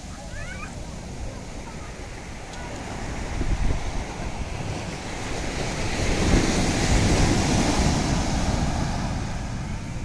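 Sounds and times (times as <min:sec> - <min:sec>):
ocean surf breaking on beach: 0:00.0 - 0:10.0
wind buffeting microphone: 0:00.0 - 0:10.0.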